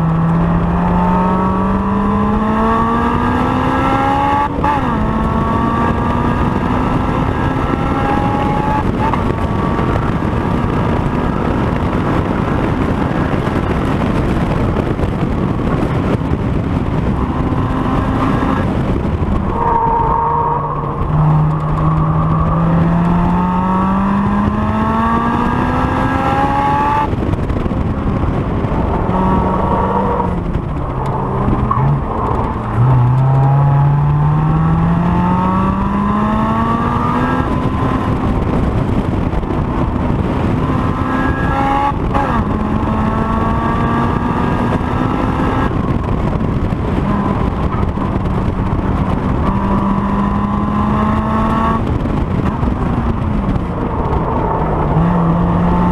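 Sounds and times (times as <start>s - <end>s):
car engine revving at full throttle: 0.0s - 55.9s.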